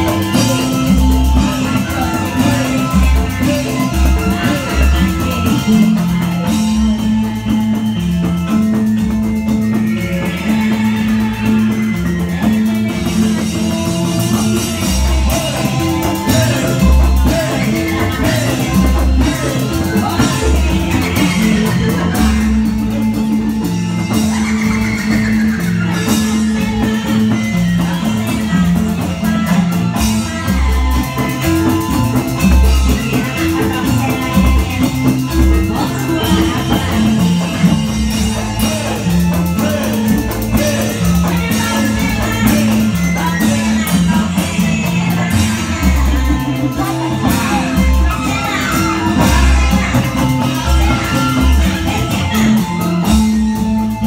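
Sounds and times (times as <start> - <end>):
loud music over loudspeakers: 0.0 - 54.0.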